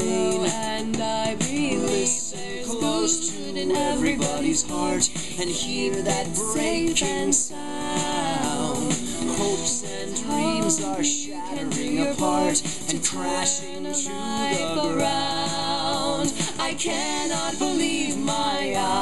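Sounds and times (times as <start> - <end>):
song through small speaker: 0.0 - 19.0.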